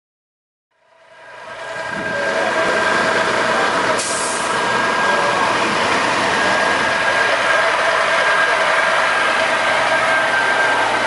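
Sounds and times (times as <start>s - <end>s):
steady high whine: 0.8s - 11.0s
diesel truck engine running: 1.1s - 11.0s.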